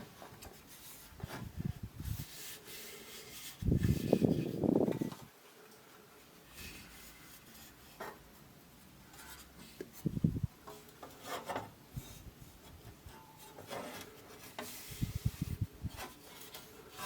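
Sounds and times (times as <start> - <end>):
rubbing and scraping handling noise: 0.0 - 17.0.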